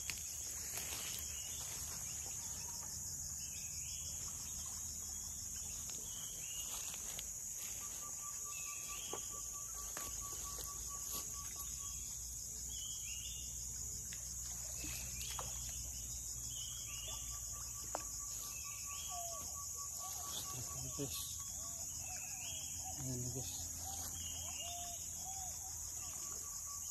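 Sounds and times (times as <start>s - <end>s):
high-pitched insect chorus: 0.0s - 26.9s.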